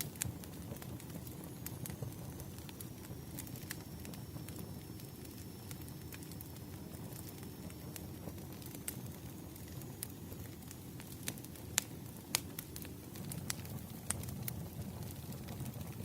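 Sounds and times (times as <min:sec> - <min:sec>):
campfire pops and snaps: 0:00.0 - 0:16.0
campfire rumbling: 0:00.0 - 0:16.0.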